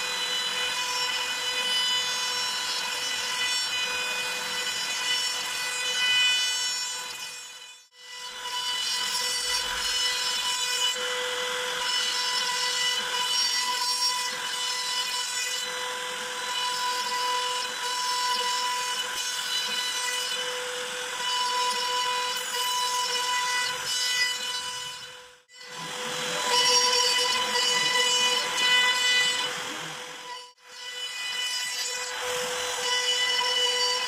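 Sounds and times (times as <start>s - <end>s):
router spindle high whine: 0.0s - 34.0s.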